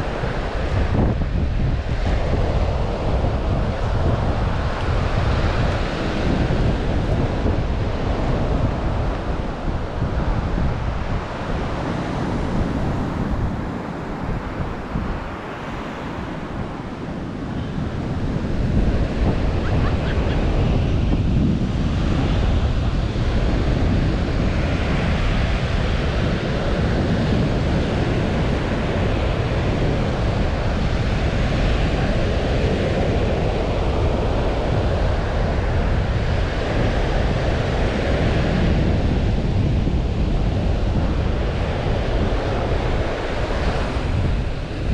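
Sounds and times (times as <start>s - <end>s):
surf washing onto beach: 0.0s - 44.9s
wind buffeting microphone: 0.0s - 44.9s.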